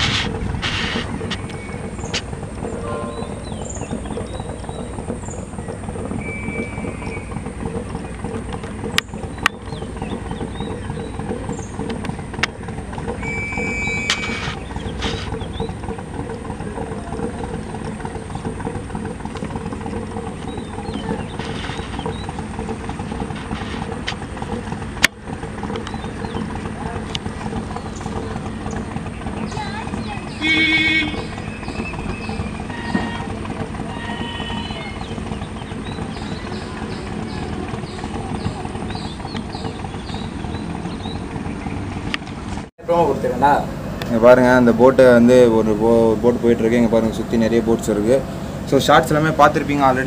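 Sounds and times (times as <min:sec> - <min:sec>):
low mechanical drone: 0:00.0 - 0:50.0.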